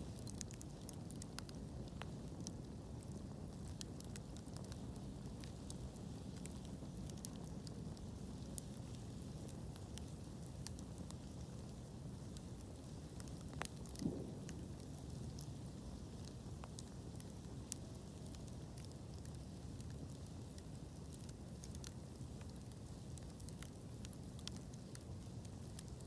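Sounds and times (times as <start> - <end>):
fire pops and snaps: 0.0 - 26.0
wood fire crackling: 0.0 - 26.0.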